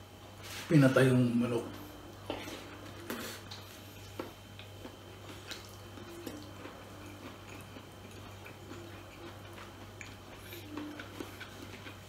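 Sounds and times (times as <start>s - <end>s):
soft chewing: 1.7s - 12.0s.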